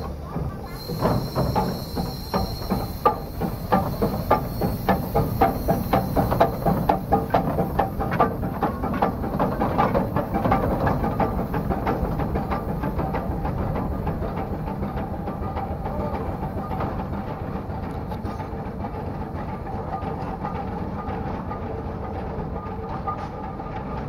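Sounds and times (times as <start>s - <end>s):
hissing steam: 0.0s - 19.7s
steam locomotive chuffing: 0.0s - 24.0s.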